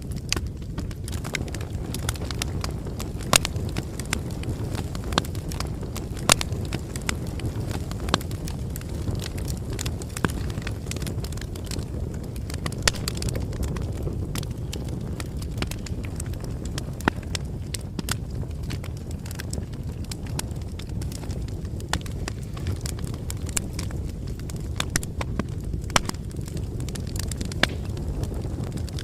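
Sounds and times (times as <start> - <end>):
bonfire popping and snapping: 0.0 - 29.0
low rumble of burning wood: 0.0 - 29.0.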